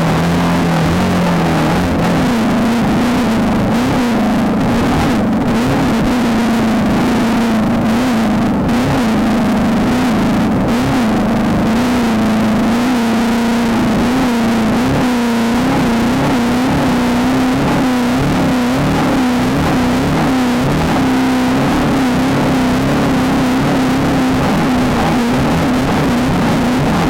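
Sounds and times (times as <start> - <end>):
race car engine revving: 0.0 - 27.0.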